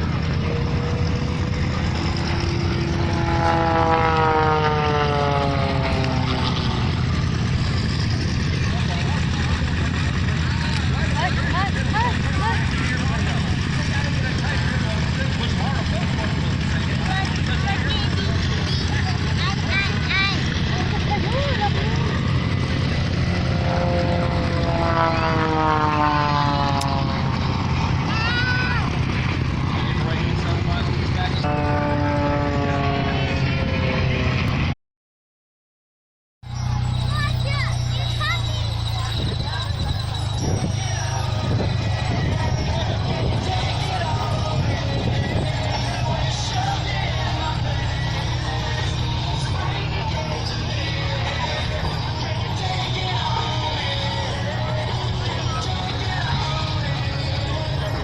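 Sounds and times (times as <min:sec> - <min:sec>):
low rumble: 0:00.0 - 0:34.7, 0:36.5 - 0:58.0
propeller plane flying past: 0:00.0 - 0:34.7, 0:36.5 - 0:58.0.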